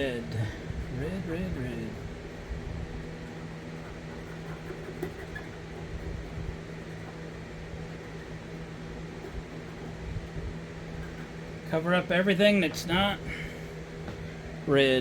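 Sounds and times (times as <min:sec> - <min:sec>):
fan machine humming: 0:00.0 - 0:15.0.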